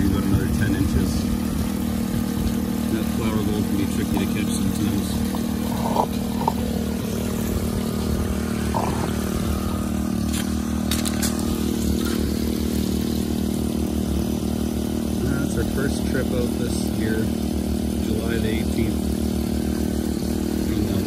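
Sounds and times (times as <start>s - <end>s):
small engine running: 0.0s - 21.0s
water pouring and trickling: 0.0s - 21.0s.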